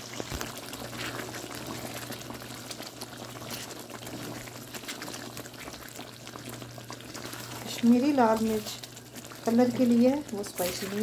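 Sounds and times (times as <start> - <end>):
gravy bubbling in a pan: 0.0 - 11.0
spatula stirring: 0.1 - 11.0.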